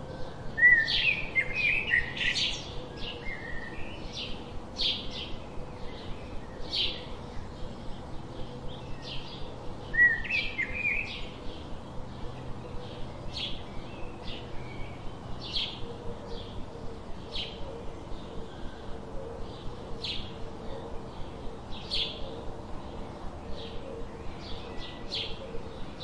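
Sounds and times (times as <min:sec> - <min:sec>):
birds chirping: 0:00.0 - 0:26.0
lower trilling bird call: 0:00.0 - 0:26.0.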